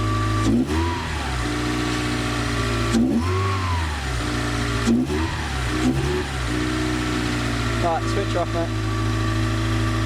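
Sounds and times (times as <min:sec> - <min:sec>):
car engine idling and revving: 0:00.0 - 0:10.0.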